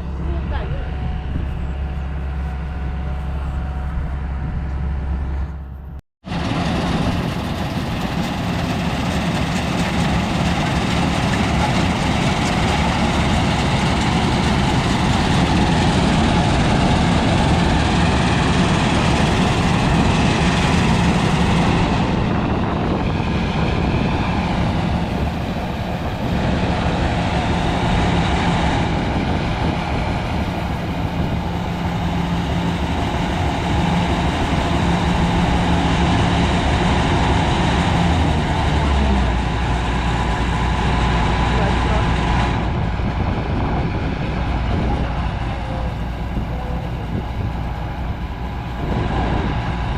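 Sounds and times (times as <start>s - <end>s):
harvesting machine running: 0.0s - 49.9s.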